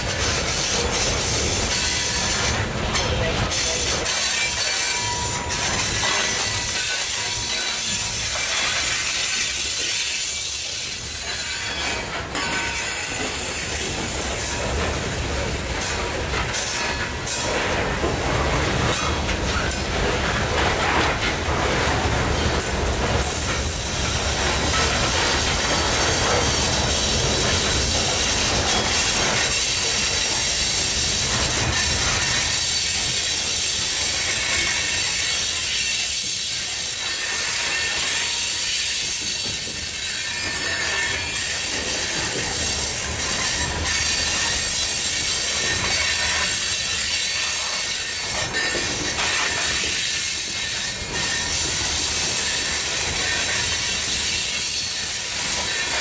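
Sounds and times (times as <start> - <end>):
train wheels rumbling on rail: 0.0 - 56.0
wheel hiss and squeal: 0.4 - 14.6, 18.8 - 20.5, 25.2 - 56.0.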